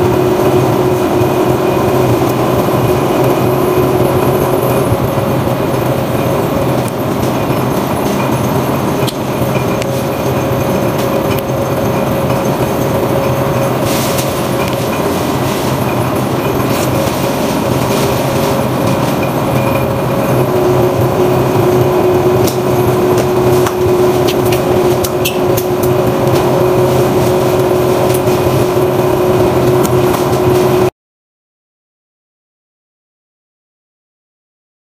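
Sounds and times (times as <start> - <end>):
constant low hum: 0.0 - 30.9
rubber mill mechanical drone: 0.0 - 30.9
steady higher tone: 0.0 - 30.9.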